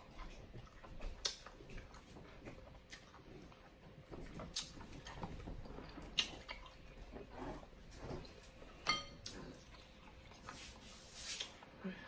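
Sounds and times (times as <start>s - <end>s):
person chewing and mouth smacks: 0.0s - 11.7s.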